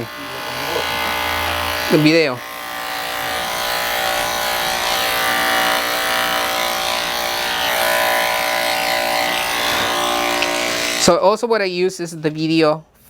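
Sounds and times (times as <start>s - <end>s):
electric clippers buzzing: 0.0s - 11.2s.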